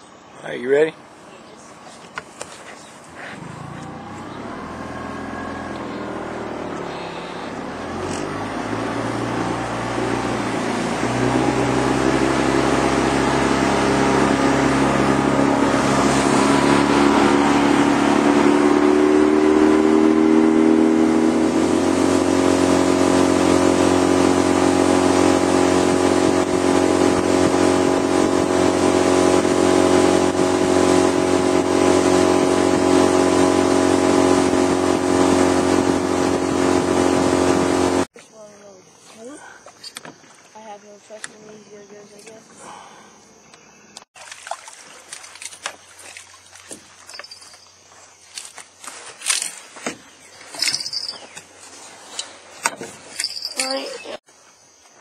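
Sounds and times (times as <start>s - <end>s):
outboard motor revving: 3.1s - 38.2s, 41.2s - 54.3s.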